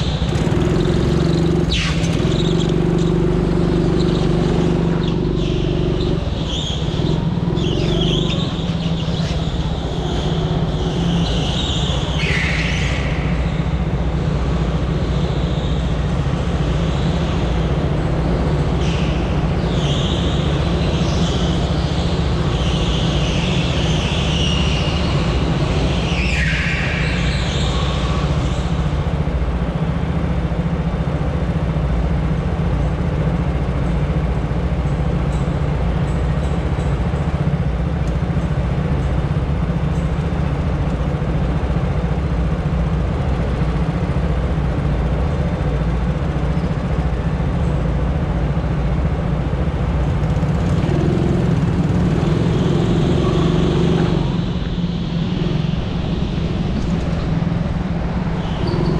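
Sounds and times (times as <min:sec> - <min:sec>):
go-kart engine droning: 0:00.0 - 0:58.9.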